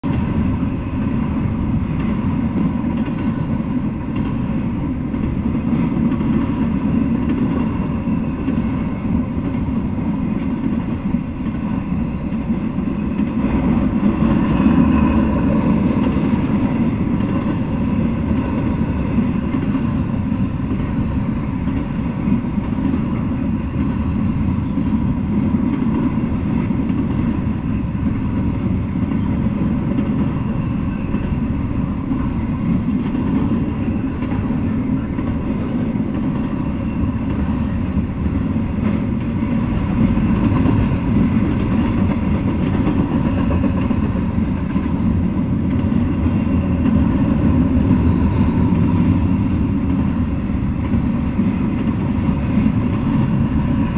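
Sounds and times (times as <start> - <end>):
train wheels on rails: 0.0 - 53.9.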